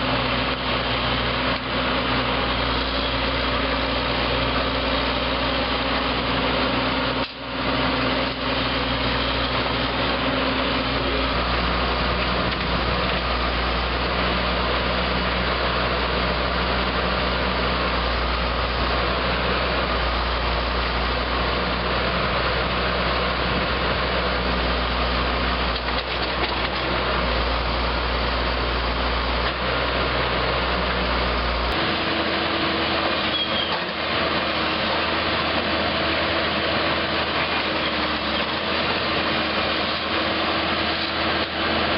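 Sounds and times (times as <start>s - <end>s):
heavy machinery engines running: 0.0s - 41.9s.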